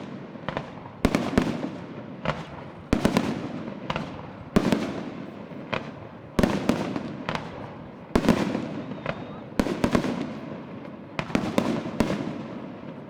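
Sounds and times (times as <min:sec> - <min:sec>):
rolling echo: 0:00.0 - 0:13.0.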